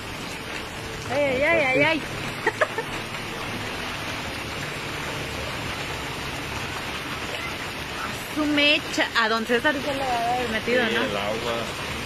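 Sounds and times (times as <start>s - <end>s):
heavy rain on flooded street: 0.0s - 12.0s.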